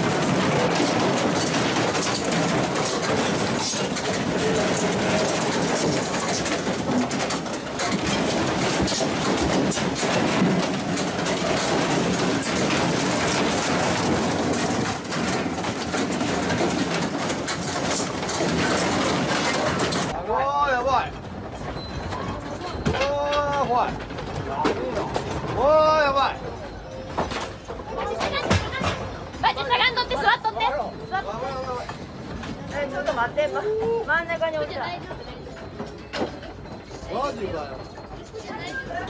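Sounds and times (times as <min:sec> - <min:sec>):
furniture rattling and creaking: 0:00.0 - 0:39.0.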